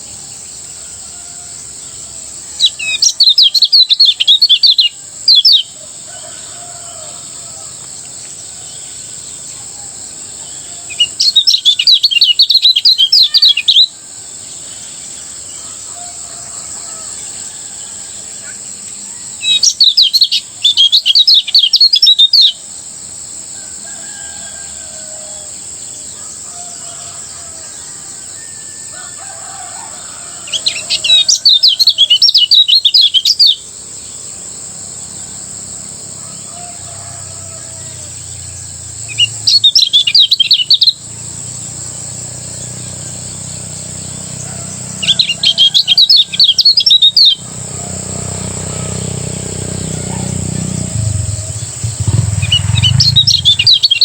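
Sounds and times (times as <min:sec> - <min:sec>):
songbird twittering: 0:01.8 - 0:22.7, 0:24.9 - 0:34.4, 0:36.3 - 0:54.0.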